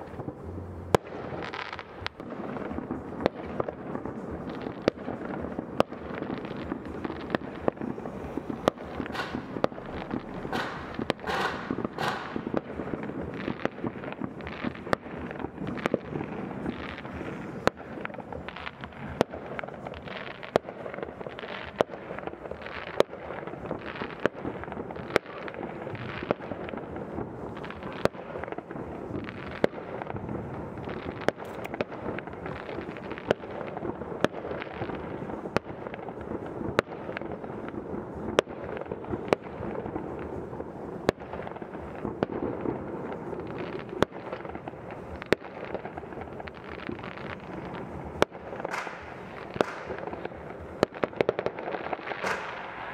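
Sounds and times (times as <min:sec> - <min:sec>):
distant fireworks crackling and popping: 0:00.0 - 0:52.9
sharp firework bangs: 0:00.0 - 0:52.9.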